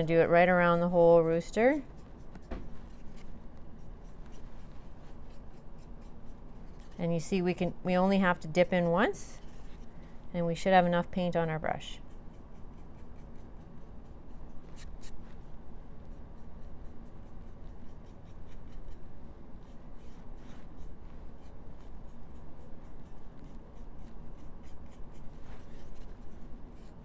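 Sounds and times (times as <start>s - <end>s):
paintbrush scratching strokes: 0.0s - 7.1s, 9.2s - 10.3s, 11.7s - 27.0s.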